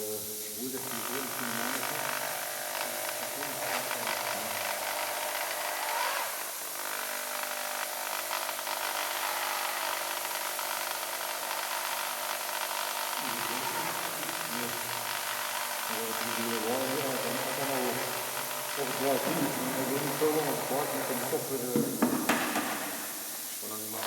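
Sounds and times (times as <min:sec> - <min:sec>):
power tool whirring: 0:00.0 - 0:24.0.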